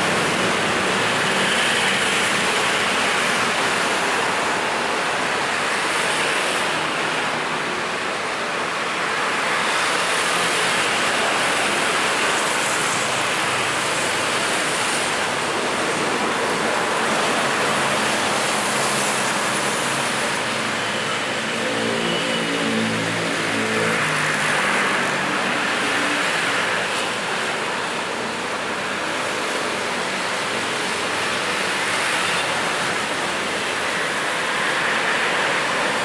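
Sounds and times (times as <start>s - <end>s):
road traffic roar: 0.0s - 36.0s.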